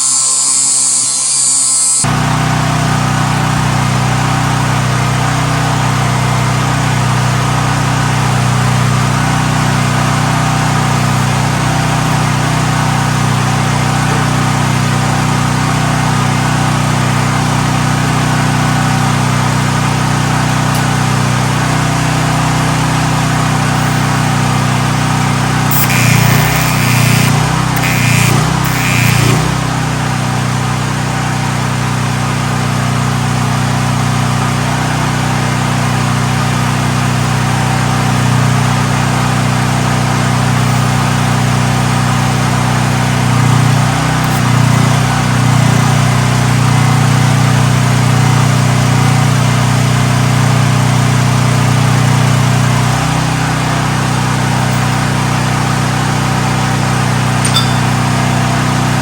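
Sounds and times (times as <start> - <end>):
generator engine running: 2.0 - 59.0.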